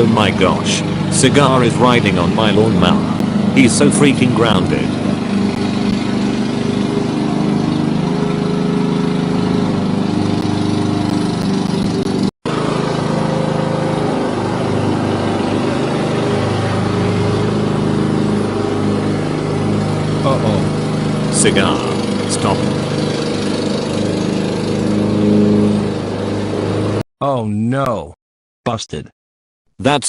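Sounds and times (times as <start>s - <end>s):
lawn mower engine running: 0.0s - 27.0s.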